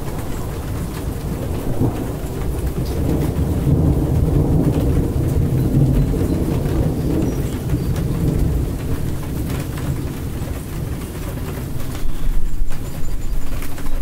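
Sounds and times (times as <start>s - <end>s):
heavy rain falling: 0.0s - 14.0s
low rumble of thunder: 0.0s - 14.0s.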